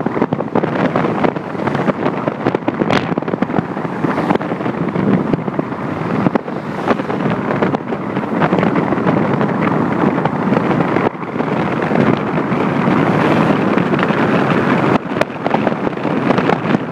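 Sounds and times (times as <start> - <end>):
road noise: 0.0 - 16.9
wind rushing over microphone: 0.0 - 16.9.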